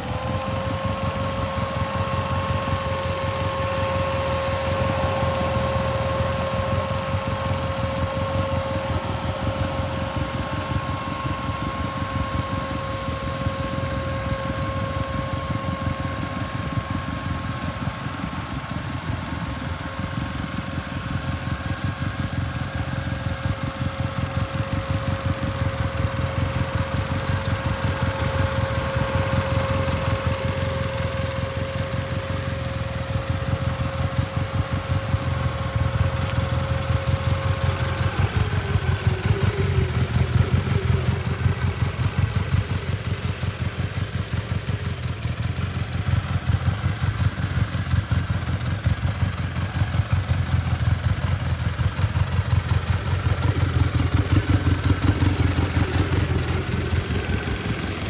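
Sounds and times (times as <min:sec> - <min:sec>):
engine idling: 0:00.0 - 0:58.0
steady whine: 0:00.0 - 0:58.0.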